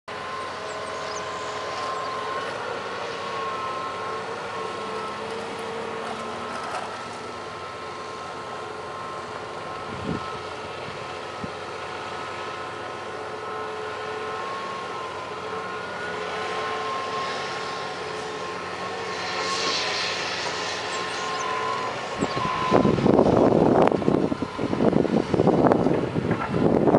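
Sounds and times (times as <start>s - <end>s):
diesel engine droning: 0.1s - 26.9s.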